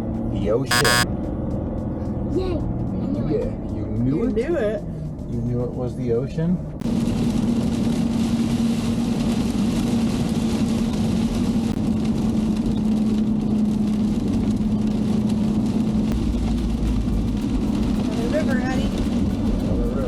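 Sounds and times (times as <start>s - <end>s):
van engine and road noise: 0.0s - 20.0s.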